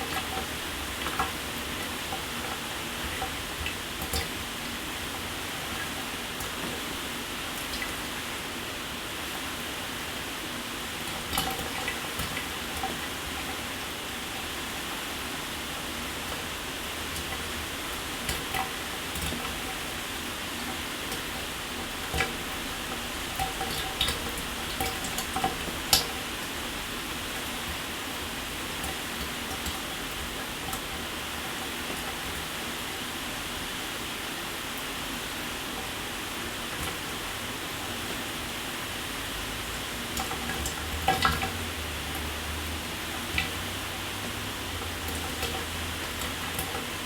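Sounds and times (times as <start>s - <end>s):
water drips and splashes: 0.0s - 8.6s, 10.8s - 47.0s.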